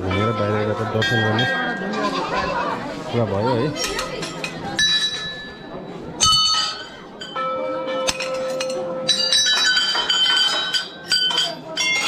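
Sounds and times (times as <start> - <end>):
temple bells ringing: 0.0 - 2.1, 3.9 - 12.0.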